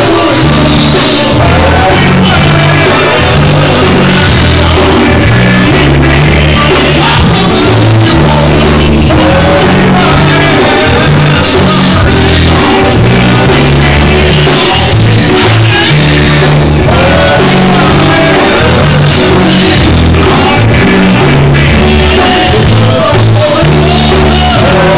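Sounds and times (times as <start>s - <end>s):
person singing lead vocals: 0.0s - 24.9s
rock band playing: 0.0s - 24.9s.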